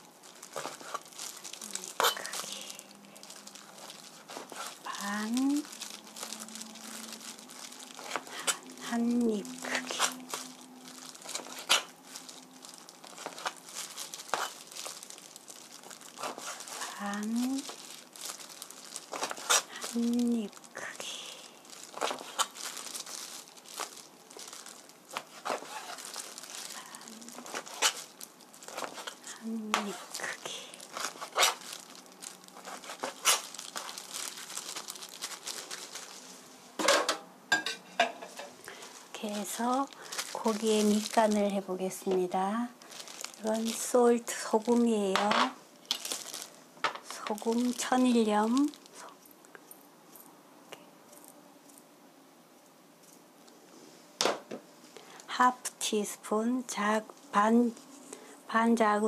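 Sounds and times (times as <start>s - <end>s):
plastic glove crinkling: 0.0s - 50.2s, 54.2s - 59.0s.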